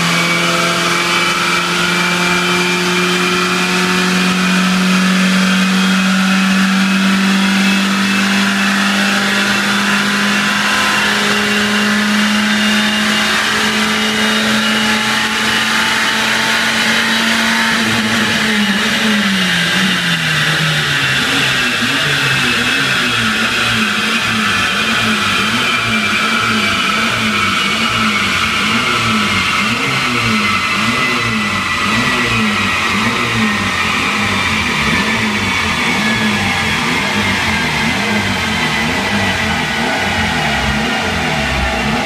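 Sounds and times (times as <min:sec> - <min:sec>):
car engine revving on dyno: 0:00.0 - 0:42.0.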